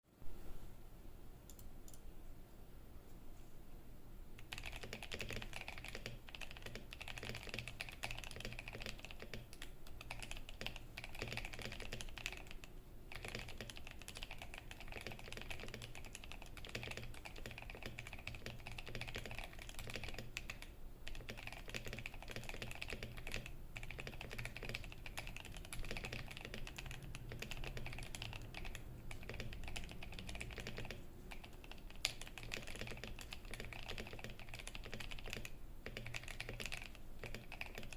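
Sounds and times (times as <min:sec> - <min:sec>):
mechanical keyboard typing: 0:04.4 - 0:37.9.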